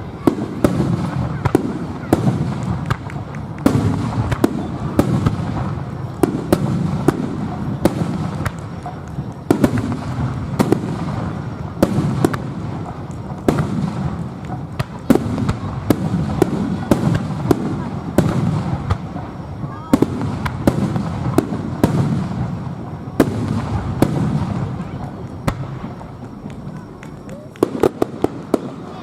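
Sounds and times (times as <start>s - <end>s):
fireworks sharp bangs: 0.0s - 29.0s
low rumble of explosions: 0.0s - 29.0s.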